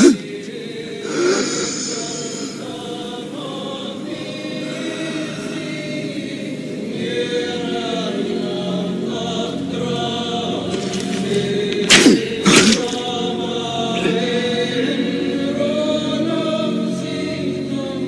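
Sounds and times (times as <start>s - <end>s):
choir singing long notes: 0.0s - 18.0s.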